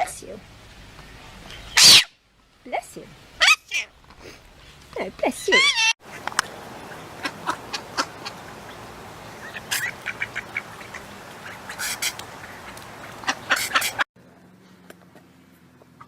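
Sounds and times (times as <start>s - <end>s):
background hiss: 0.0s - 5.4s, 6.0s - 14.1s.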